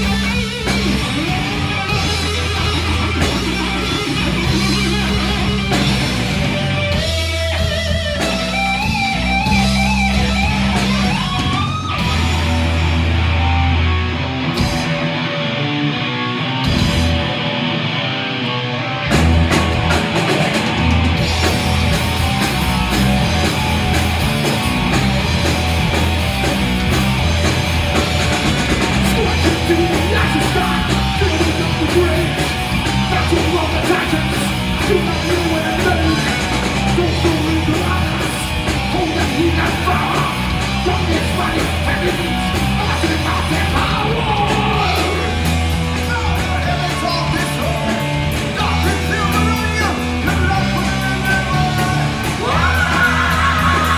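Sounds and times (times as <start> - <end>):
heavy metal band playing: 0.0 - 53.9.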